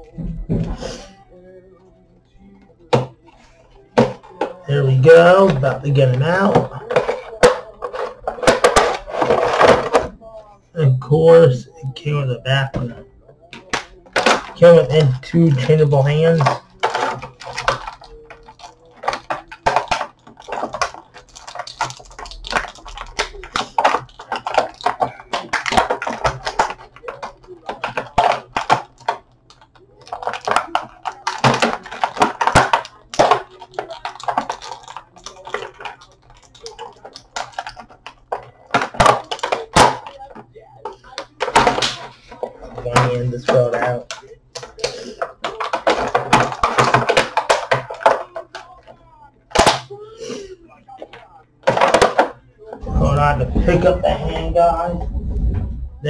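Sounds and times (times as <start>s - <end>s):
plastic packaging clicking and rustling: 3.9s - 10.1s, 12.5s - 55.1s.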